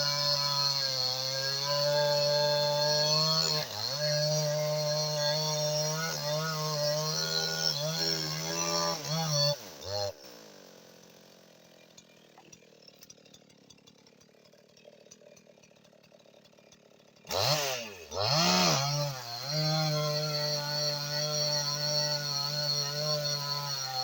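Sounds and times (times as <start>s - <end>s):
chainsaw revving and idling: 0.0s - 24.0s.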